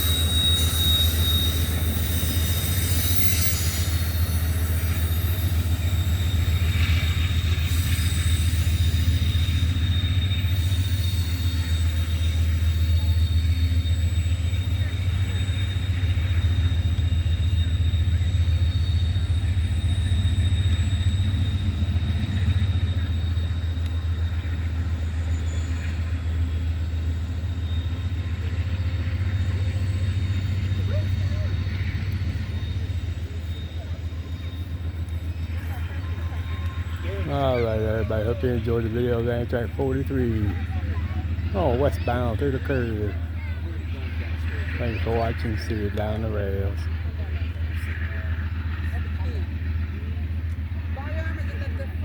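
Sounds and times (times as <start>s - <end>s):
high-pitched wheel squeal: 0.0s - 51.4s
train rumbling: 0.0s - 52.0s.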